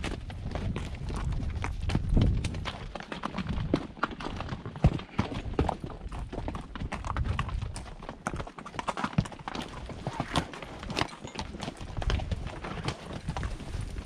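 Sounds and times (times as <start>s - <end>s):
hooves on stone: 0.0s - 14.0s.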